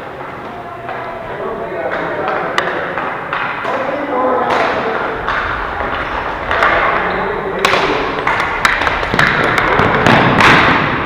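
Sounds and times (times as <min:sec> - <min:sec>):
sticks and ball knocking: 0:01.9 - 0:11.0.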